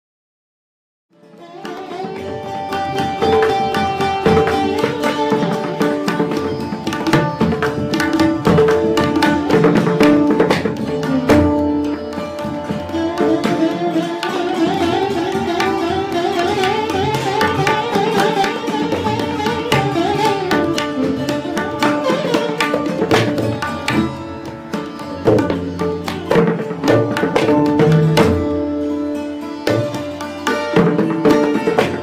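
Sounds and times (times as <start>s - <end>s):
veena and santoor melody: 1.1s - 32.0s
hand drums playing: 1.4s - 32.0s.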